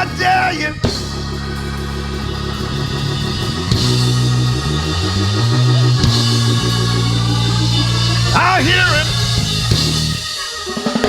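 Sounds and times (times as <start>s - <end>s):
band playing low chords: 0.0s - 11.0s
drums: 0.0s - 11.0s.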